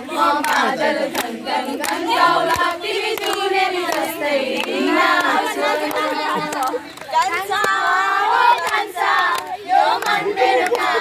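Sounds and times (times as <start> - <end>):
young women singing together: 0.0 - 11.0
hand claps: 0.4 - 11.0.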